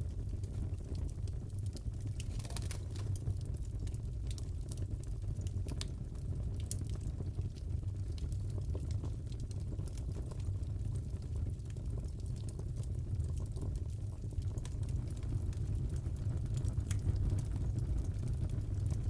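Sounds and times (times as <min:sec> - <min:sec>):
fire popping and snapping: 0:00.0 - 0:19.0
fire roaring: 0:00.0 - 0:19.0.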